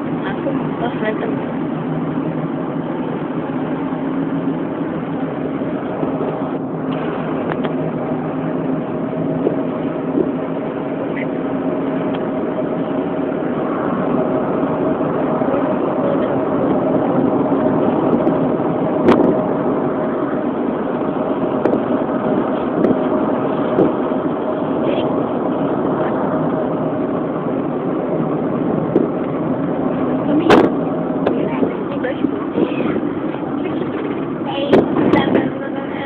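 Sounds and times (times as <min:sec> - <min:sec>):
car engine and road noise: 0:00.0 - 0:36.0
steady hum: 0:00.0 - 0:36.0.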